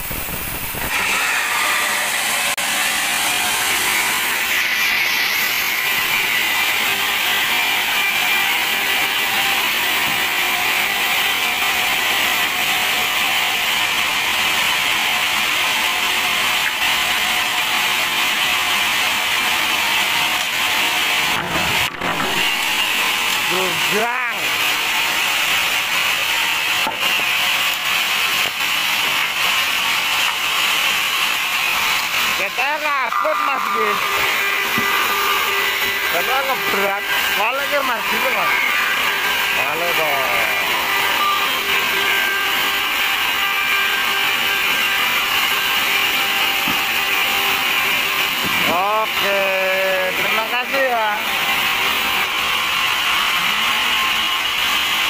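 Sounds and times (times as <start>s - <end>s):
band saw sawing log: 0.8s - 55.0s.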